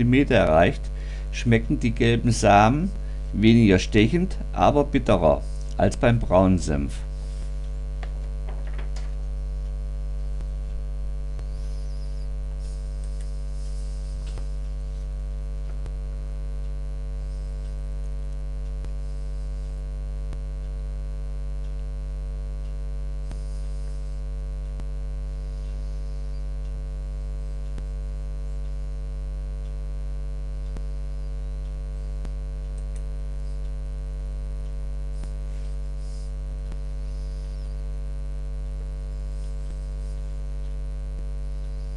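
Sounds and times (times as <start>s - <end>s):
electrical mains hum: 0.0s - 41.9s
faint ticks: 7.3s - 41.9s.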